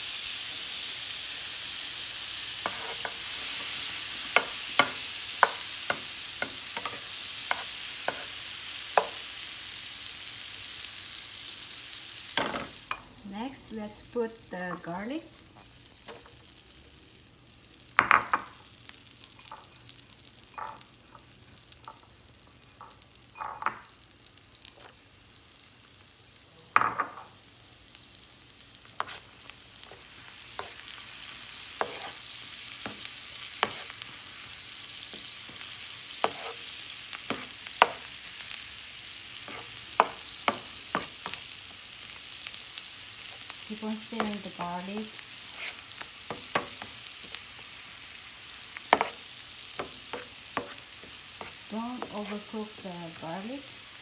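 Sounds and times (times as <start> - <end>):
garlic sizzling in butter: 0.0 - 54.0.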